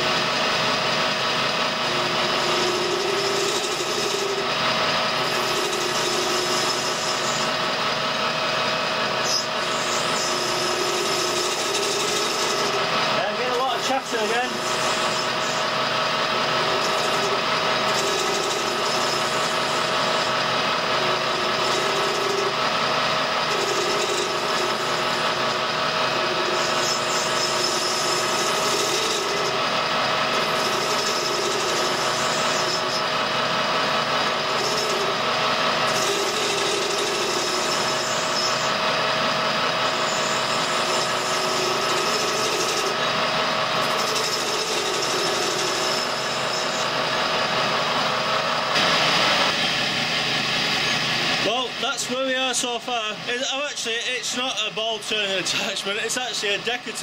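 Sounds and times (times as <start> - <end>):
rasping metal cutting: 0.0 - 52.7
lathe machine whine: 0.0 - 57.0.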